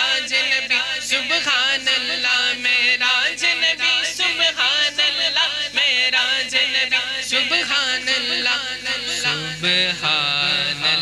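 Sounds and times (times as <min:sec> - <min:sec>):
low steady hum: 0:00.0 - 0:11.0
men chanting: 0:00.0 - 0:11.0.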